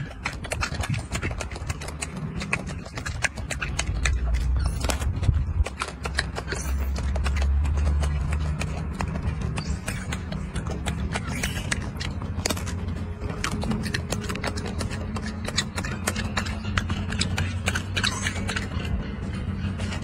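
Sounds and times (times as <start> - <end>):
monkey chewing food: 0.0 - 20.0
steady low hum: 0.0 - 20.0.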